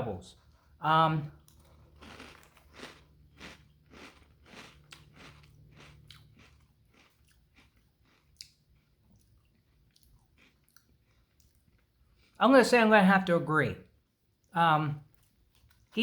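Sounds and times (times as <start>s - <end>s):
person chewing crunchy cereal: 0.3s - 12.4s, 14.1s - 16.0s.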